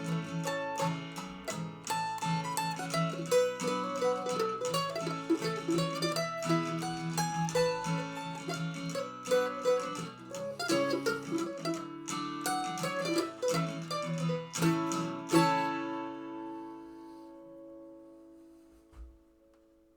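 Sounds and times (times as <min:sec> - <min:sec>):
mandolin: 0:00.0 - 0:19.6
guitar: 0:00.0 - 0:19.9.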